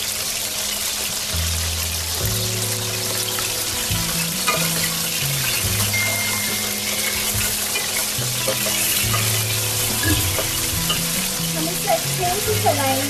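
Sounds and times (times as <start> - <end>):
chicken sizzling in hot oil: 0.0 - 13.0
soft background music: 0.0 - 13.0.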